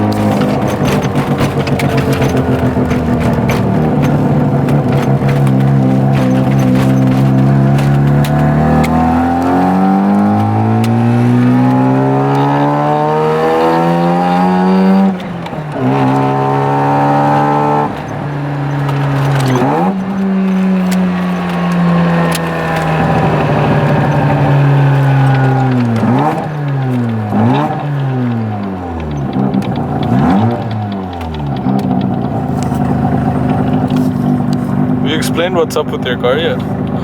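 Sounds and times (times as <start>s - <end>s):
car engine revving through gears: 0.0s - 37.0s.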